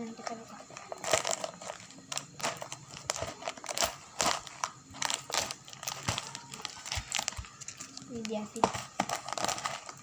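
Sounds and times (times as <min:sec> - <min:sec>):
packaging crinkling: 0:00.2 - 0:10.0.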